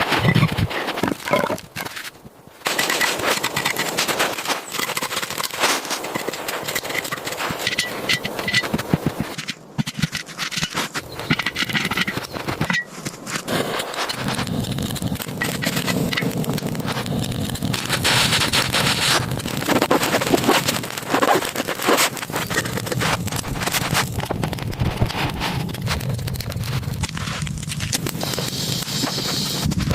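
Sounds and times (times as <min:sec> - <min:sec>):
crackles and snaps of kindling: 0:00.0 - 0:29.9.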